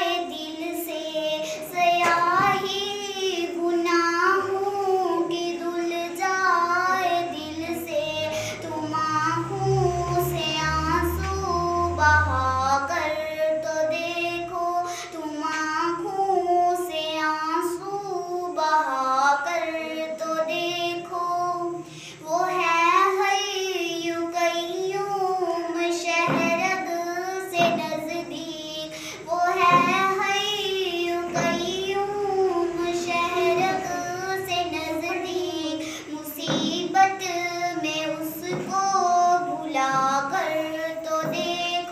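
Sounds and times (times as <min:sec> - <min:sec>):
girl singing unaccompanied: 0:00.0 - 0:41.9.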